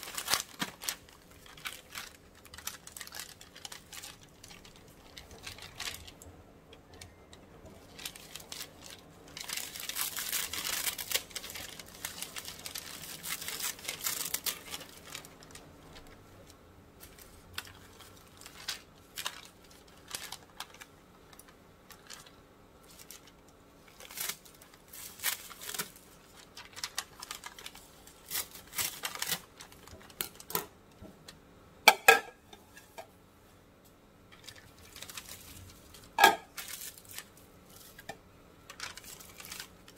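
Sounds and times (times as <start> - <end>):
plastic packaging crinkling: 0.0 - 31.4, 34.2 - 39.9.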